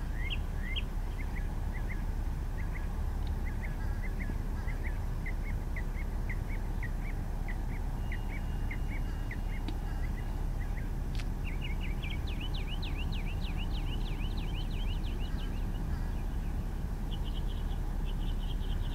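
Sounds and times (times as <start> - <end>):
birds calling: 0.0 - 18.9
steady low rumble: 0.0 - 18.9.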